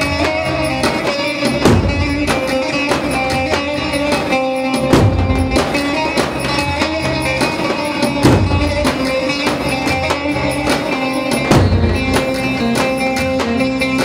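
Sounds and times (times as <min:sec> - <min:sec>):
plucked string melody: 0:00.0 - 0:14.0
steady drum beat: 0:00.0 - 0:14.0.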